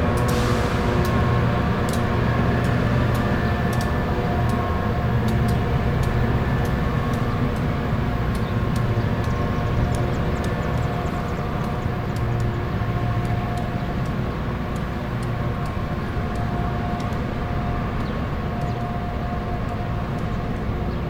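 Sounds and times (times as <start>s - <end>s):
rail grinding train drone: 0.0s - 21.0s.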